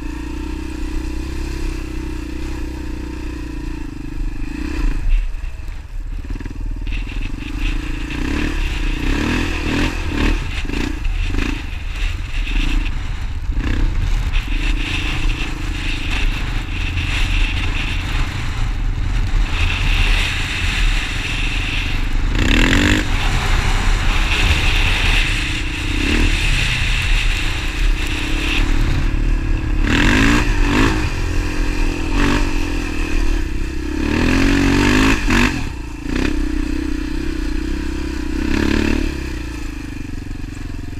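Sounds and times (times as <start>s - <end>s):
motorcycle engine revving: 0.0s - 40.9s
steady rushing noise: 0.0s - 40.9s.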